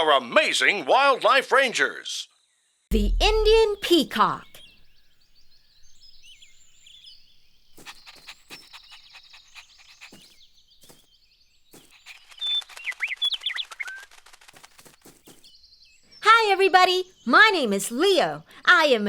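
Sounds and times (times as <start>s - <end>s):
birds chirping: 2.9s - 19.0s.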